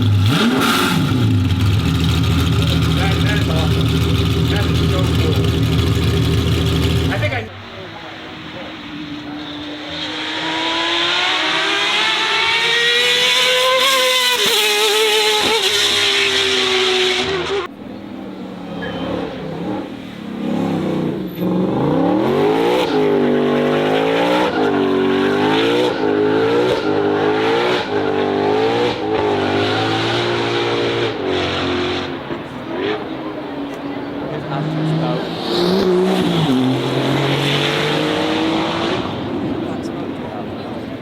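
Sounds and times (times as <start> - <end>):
car engine revving: 0.0 - 7.6, 8.9 - 17.8, 18.4 - 41.0
racing car engine at full throttle: 0.0 - 41.0.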